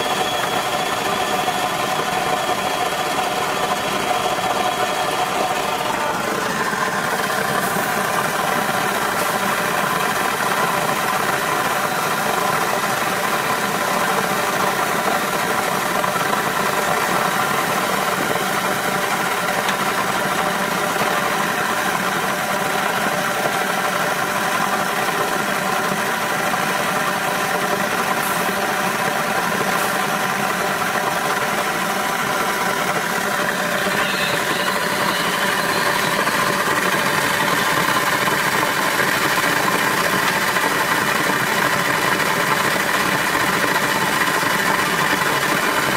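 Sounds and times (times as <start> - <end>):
packaging machine humming: 0.0 - 45.9.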